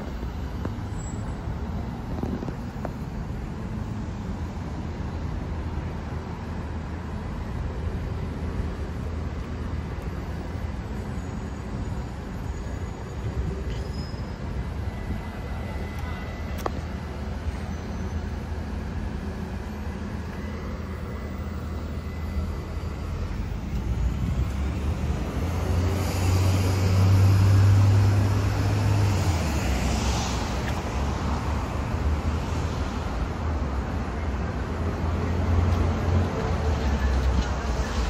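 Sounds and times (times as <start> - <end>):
rumble of passing cars: 0.0 - 38.0.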